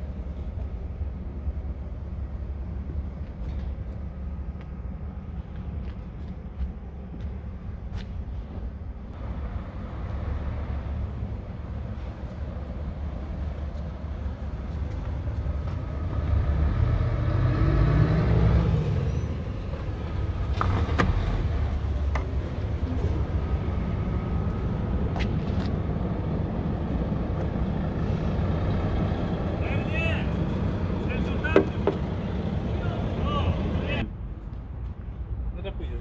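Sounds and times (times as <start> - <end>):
heavy vehicle engine rumbling: 0.0 - 36.0.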